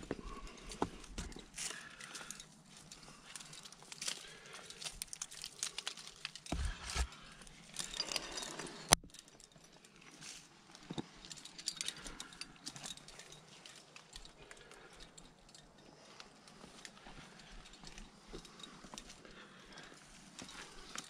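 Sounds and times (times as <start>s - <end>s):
climbing gear clicks and taps: 0.0s - 9.9s, 10.8s - 21.0s.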